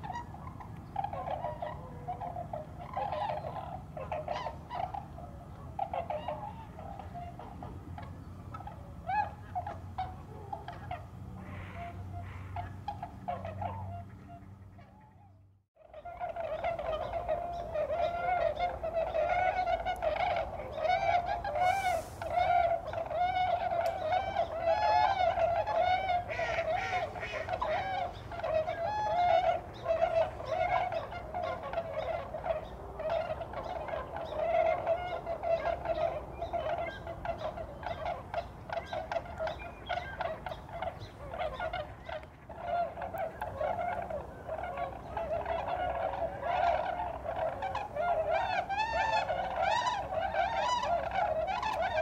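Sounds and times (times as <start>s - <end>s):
swans calling: 0.0s - 52.0s.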